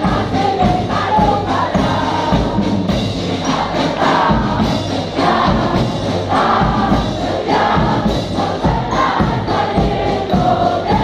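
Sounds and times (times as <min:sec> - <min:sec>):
brass marching band playing: 0:00.0 - 0:11.0
crowd singing along: 0:00.0 - 0:11.0
steady low beat: 0:00.0 - 0:11.0.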